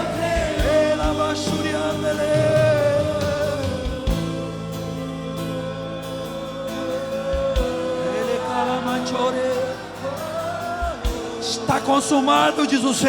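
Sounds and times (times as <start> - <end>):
gospel worship music: 0.0 - 13.0.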